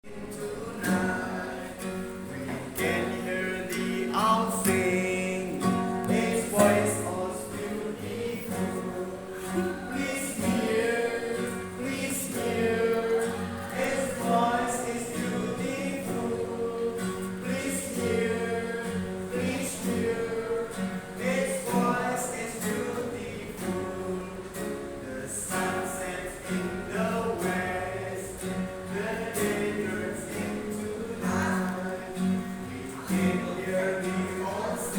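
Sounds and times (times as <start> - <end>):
voices singing with accompaniment: 0.0 - 34.9.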